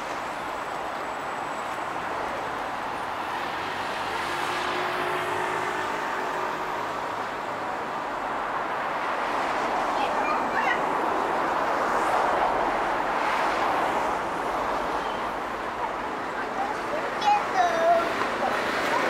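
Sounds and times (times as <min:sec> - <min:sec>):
bus pulling in: 0:00.0 - 0:19.0
traffic driving past: 0:00.0 - 0:19.0.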